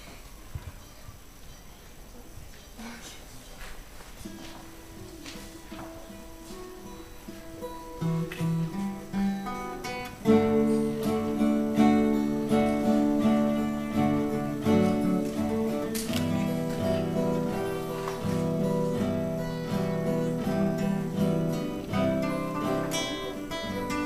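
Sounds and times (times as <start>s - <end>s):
acoustic guitar strumming: 4.2s - 24.0s.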